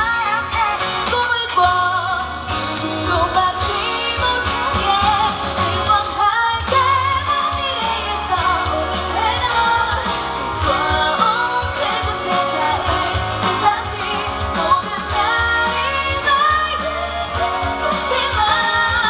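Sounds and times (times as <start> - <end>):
live pop band playing: 0.0 - 19.0
woman singing: 0.0 - 19.0.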